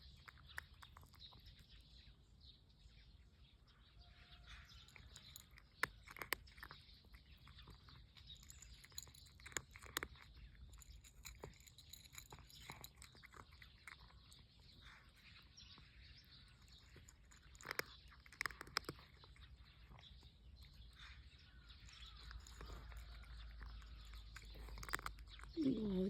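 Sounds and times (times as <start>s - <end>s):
cat chewing food: 0.0s - 2.3s, 4.4s - 26.0s.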